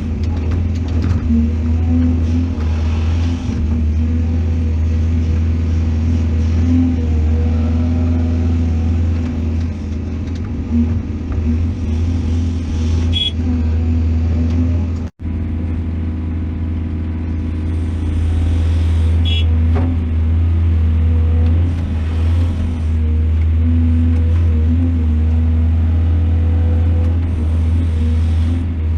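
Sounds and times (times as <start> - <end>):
excavator diesel engine drone: 0.0 - 28.9.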